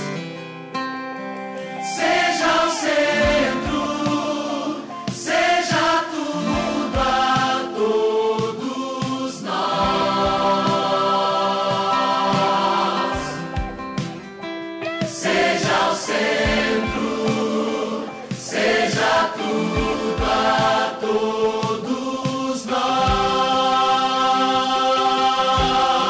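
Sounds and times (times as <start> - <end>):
instrumental backing music: 0.0 - 26.0
choir singing worship song: 1.8 - 14.2, 15.1 - 26.0.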